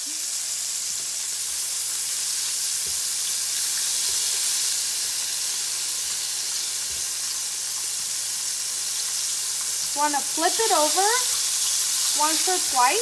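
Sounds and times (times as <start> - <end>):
squid frying in hot oil: 0.0 - 13.0.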